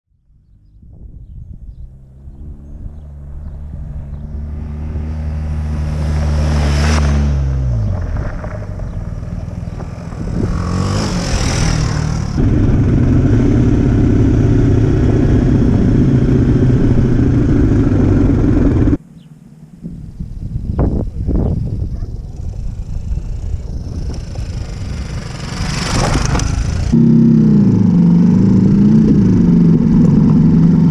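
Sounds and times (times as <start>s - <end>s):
wind: 0.1s - 30.9s
off-road motorcycles passing: 0.5s - 30.9s
motorcycle engine running: 0.6s - 30.9s.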